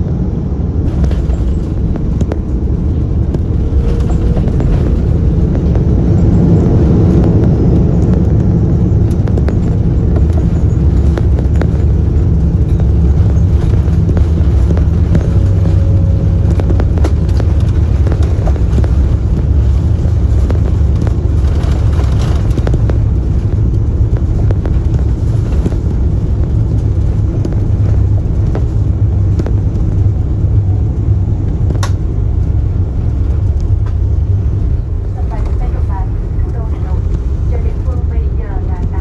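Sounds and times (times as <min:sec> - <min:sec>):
vehicle rumble from inside: 0:00.0 - 0:39.0.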